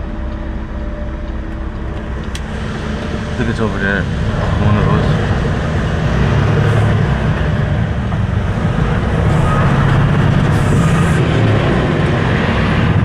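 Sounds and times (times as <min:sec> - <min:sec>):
diesel truck engine humming: 0:00.0 - 0:13.0.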